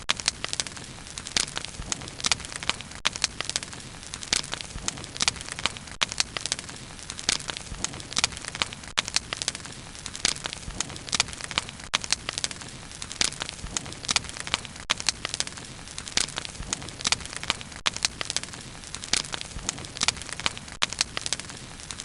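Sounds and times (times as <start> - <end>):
bonfire crackling and hissing: 0.0 - 22.0.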